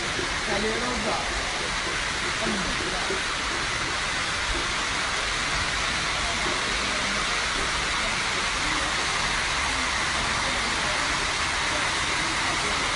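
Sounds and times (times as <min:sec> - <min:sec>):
floodwater rushing down escalators: 0:00.0 - 0:12.9.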